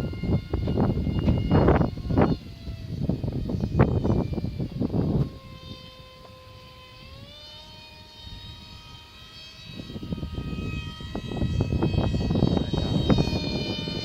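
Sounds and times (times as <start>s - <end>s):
model plane motor whining: 0.0s - 14.0s
wind buffeting microphone: 0.0s - 14.0s.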